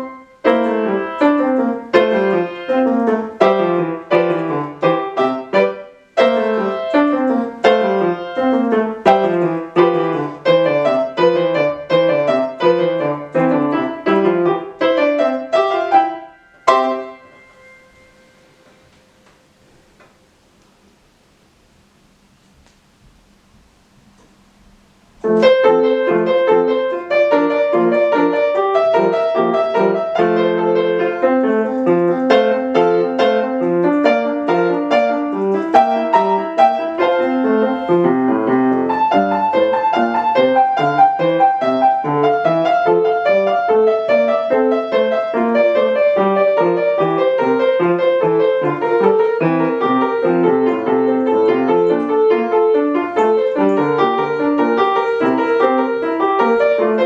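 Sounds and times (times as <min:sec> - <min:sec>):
solo piano classical piece: 0:00.0 - 0:57.0.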